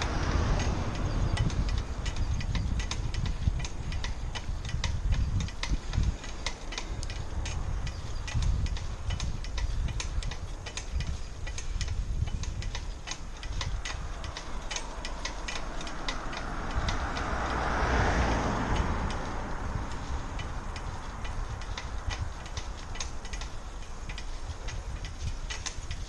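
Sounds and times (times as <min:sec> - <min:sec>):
bicycle rattling: 0:00.0 - 0:26.0
wind buffeting microphone: 0:00.0 - 0:26.0.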